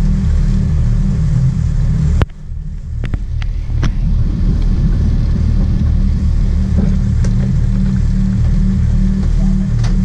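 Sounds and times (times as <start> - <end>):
boat engines rumbling: 0.0 - 10.0.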